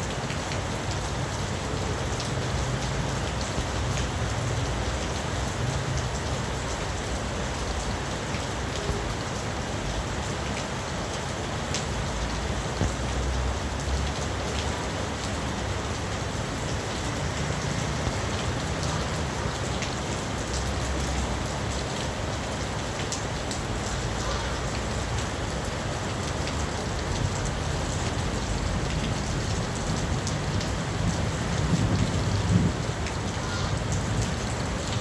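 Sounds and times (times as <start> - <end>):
heavy rain falling: 0.0 - 35.0
raindrops ticking on surfaces: 0.0 - 35.0.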